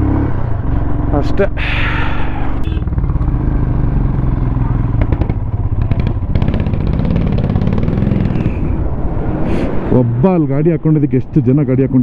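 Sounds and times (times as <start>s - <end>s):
vehicle engine running under load: 0.0s - 9.9s.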